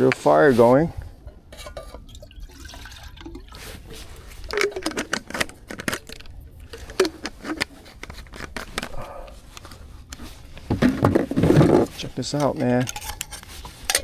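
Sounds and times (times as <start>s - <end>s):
pots clattering: 0.0s - 14.0s.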